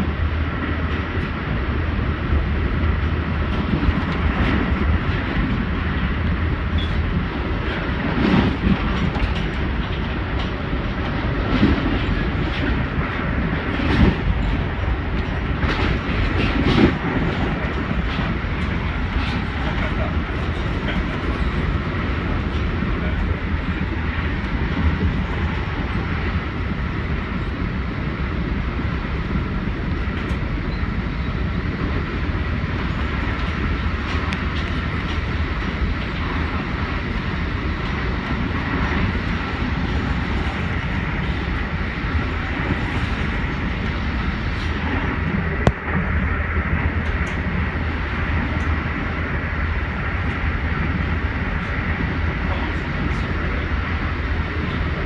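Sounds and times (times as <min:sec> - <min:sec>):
train rumble and rail noise: 0:00.0 - 0:55.0.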